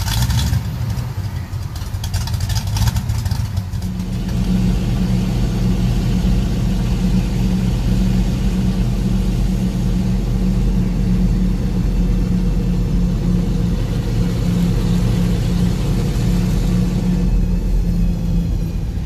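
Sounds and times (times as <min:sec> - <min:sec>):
road noise: 0:00.0 - 0:19.0
truck engine low drone: 0:00.0 - 0:19.0.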